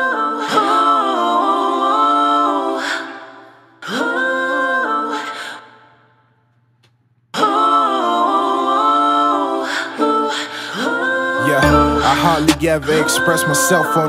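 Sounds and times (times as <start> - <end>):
a cappella singing: 0.0 - 6.3, 7.3 - 14.0.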